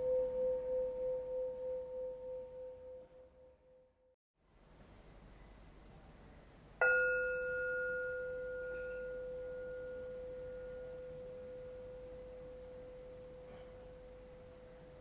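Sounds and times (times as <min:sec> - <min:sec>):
singing bowl ringing: 0:00.0 - 0:04.0, 0:06.8 - 0:15.0.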